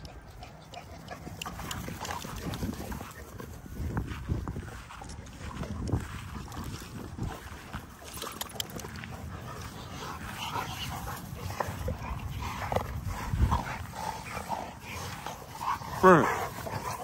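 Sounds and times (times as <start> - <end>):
dogs vocalising while play-fighting: 0.0 - 17.0.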